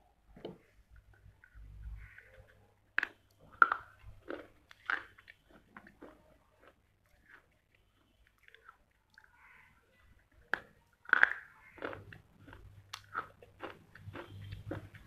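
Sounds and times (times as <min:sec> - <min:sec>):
person chewing crunchily: 0:01.0 - 0:09.5, 0:10.2 - 0:15.0.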